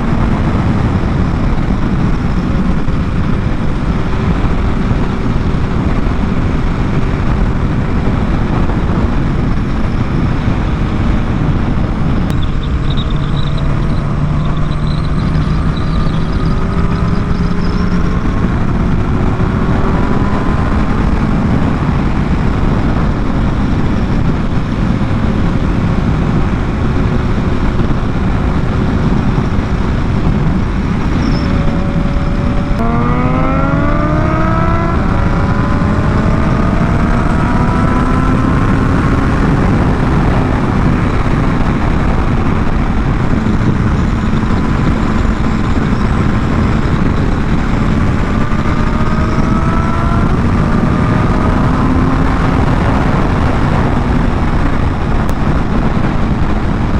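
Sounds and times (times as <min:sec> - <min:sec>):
motorcycle engine running: 0:00.0 - 0:56.9
wind rush: 0:00.0 - 0:56.9.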